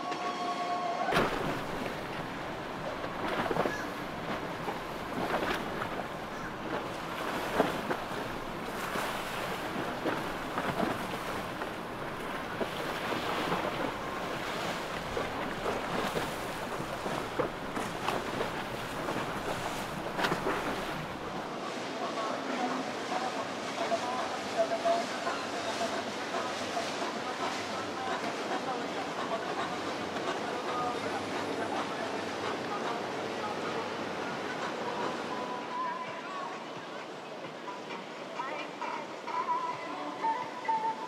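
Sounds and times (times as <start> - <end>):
waves splashing: 0.0 - 41.0
water slapping: 1.1 - 35.6.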